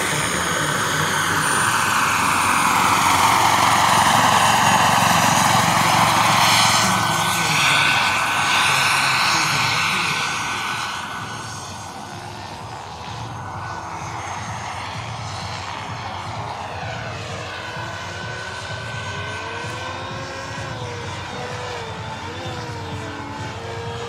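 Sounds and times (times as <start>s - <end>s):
helicopter rotor rushing: 0.0s - 24.0s
model turbine whine: 0.0s - 24.0s.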